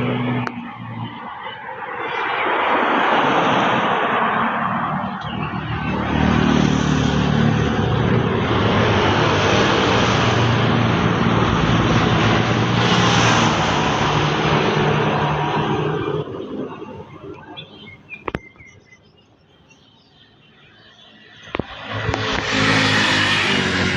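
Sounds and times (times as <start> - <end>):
passing motor engine hum: 0.0 - 18.3, 21.4 - 23.9.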